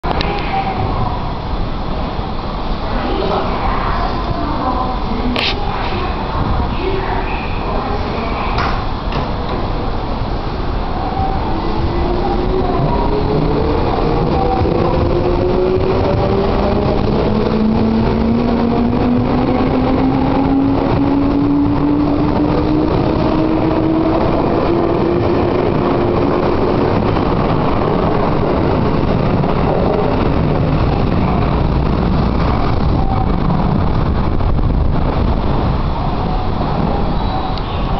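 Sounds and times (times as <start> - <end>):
wheels rumbling on rail: 0.0 - 37.9.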